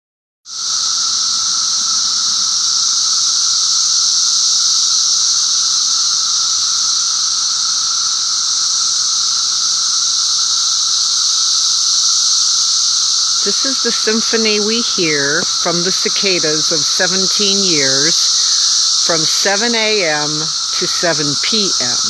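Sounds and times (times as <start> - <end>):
cicadas droning: 0.5 - 22.0.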